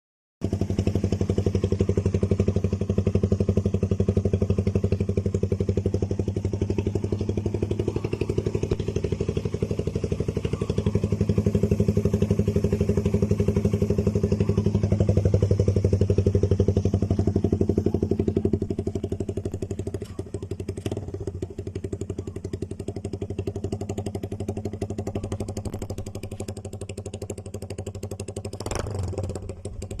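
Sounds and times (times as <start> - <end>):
motorcycle idling: 0.4 - 30.0.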